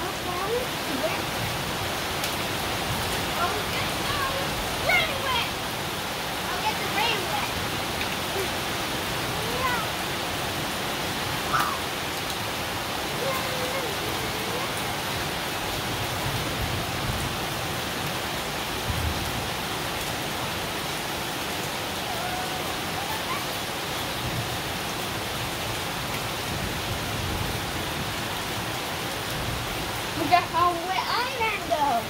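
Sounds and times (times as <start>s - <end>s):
heavy rain on pavement: 0.0s - 32.0s.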